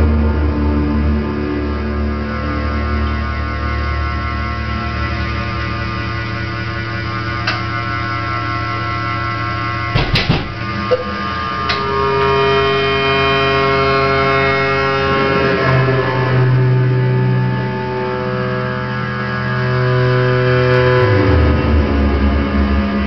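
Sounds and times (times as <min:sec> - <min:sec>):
strong low hum: 0:00.0 - 0:23.0
synthesizer drone: 0:00.0 - 0:23.0.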